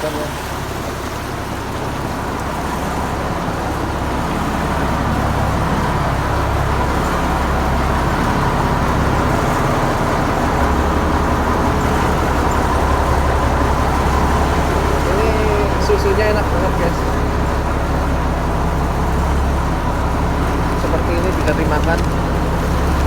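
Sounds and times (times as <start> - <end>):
engine running with low rumble: 0.0 - 23.0.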